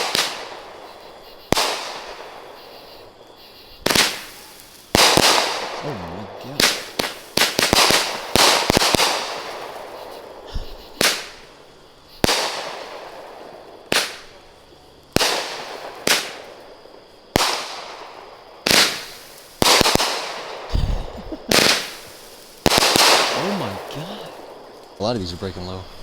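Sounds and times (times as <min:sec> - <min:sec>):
firework shells bursting with bangs: 0:00.0 - 0:25.8.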